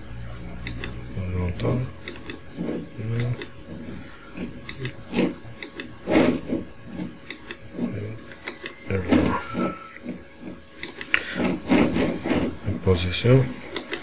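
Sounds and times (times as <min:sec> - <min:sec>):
low murmurs: 0:00.0 - 0:14.0
clicks and rubbing handling noise: 0:00.6 - 0:14.0.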